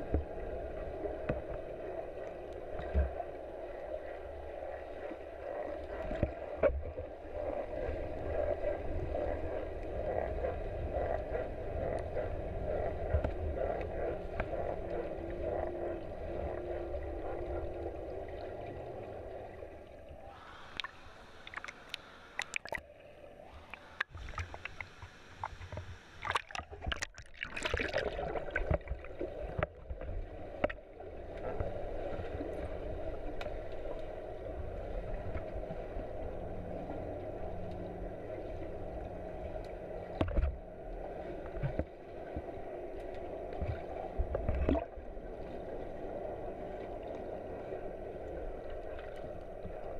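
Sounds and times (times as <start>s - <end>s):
splashing and bubbling: 0.0s - 36.2s, 38.2s - 49.9s
underwater rumble of water: 0.0s - 49.9s.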